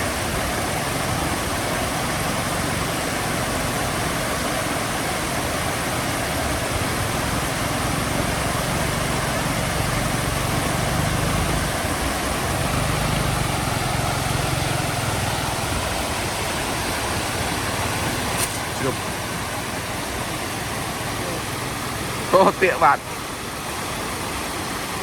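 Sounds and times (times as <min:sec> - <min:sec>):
vehicle engine humming: 0:00.0 - 0:24.7
continuous rushing noise: 0:00.0 - 0:25.0.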